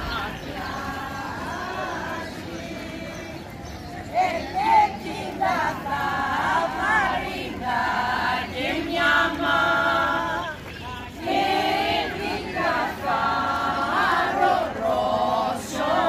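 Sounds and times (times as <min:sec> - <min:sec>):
group singing unaccompanied: 0:00.0 - 0:16.0.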